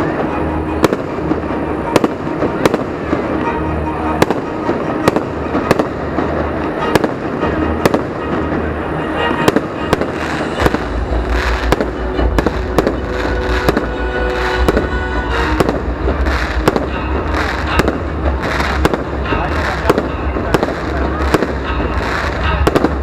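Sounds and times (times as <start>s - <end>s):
continuous low rumble: 0.0s - 23.0s
fireworks bangs and cracks: 0.0s - 23.0s.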